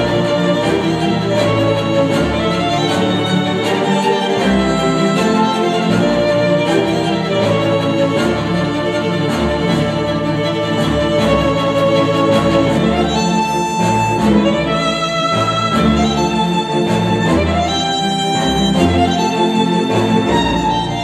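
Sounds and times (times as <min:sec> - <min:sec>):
held string notes: 0:00.0 - 0:21.0.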